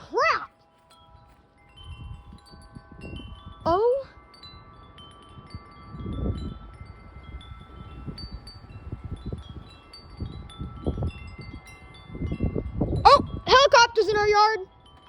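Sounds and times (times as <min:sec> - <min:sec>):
wind chimes ringing: 0:00.0 - 0:15.0
wind gusts buffeting microphone: 0:01.6 - 0:15.0.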